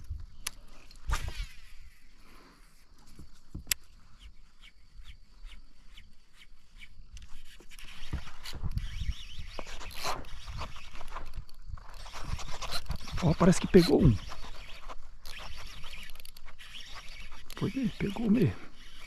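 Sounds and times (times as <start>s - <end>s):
fishing reel ticking: 3.7s - 19.0s.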